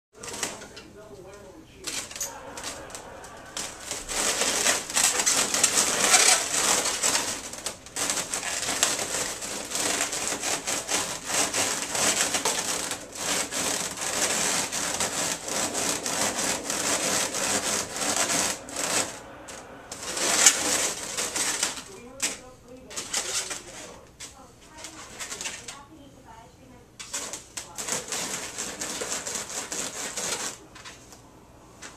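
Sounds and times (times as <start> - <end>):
balloons rubbing and squeaking: 0.2 - 0.9, 1.8 - 25.8, 27.0 - 30.8.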